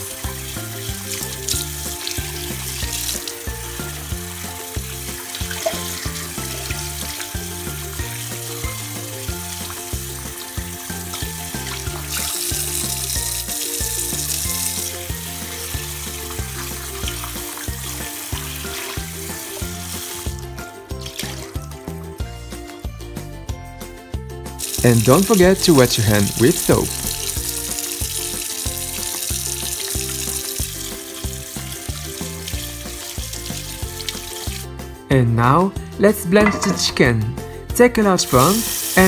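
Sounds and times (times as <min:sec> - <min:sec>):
tap water splashing in sink: 0:00.0 - 0:21.7, 0:24.6 - 0:34.7
background music with bass line: 0:00.0 - 0:39.0.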